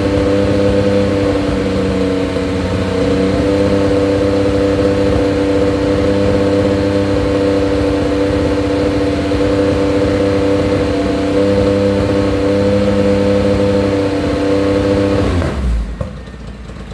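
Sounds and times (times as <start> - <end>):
motor humming at high speed: 0.0 - 16.0.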